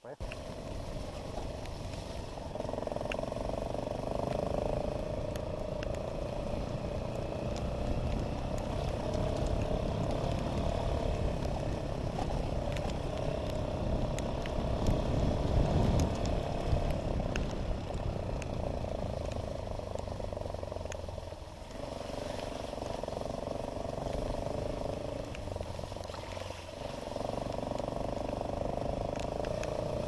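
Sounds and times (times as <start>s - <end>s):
motocross bike engine: 0.0s - 30.0s
small ticks: 0.2s - 0.6s, 1.4s - 30.0s.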